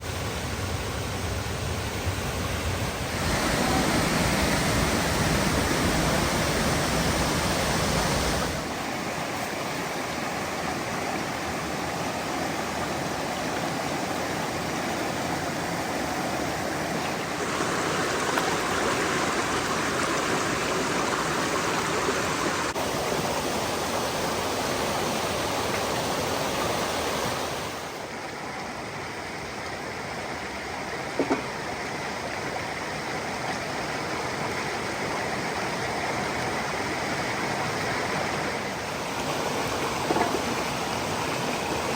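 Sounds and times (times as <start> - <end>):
waterfall rushing and splashing: 0.0 - 41.9.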